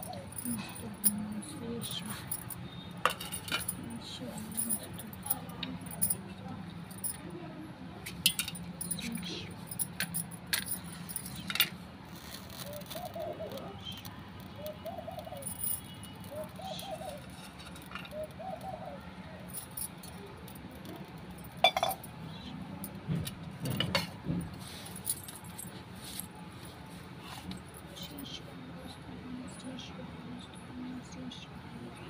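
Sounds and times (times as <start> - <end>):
bangles and metal vessels clinking: 0.0 - 7.4, 8.0 - 26.7.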